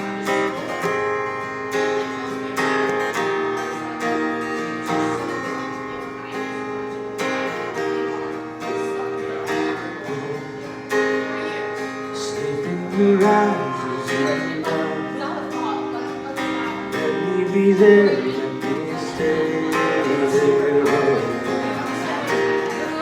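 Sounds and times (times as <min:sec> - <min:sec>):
acoustic guitar strummed chords: 0:00.0 - 0:23.0.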